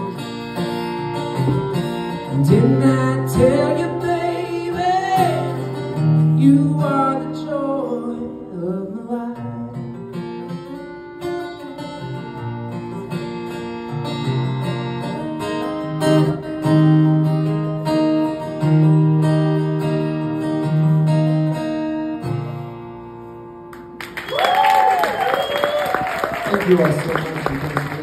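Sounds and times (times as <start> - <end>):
acoustic guitar strummed chords: 0.0 - 24.0.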